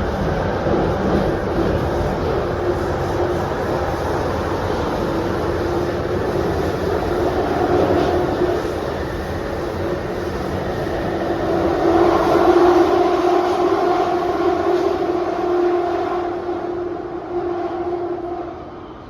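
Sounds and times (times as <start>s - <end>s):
train rumble: 0.0s - 19.0s
train whine: 0.0s - 19.0s.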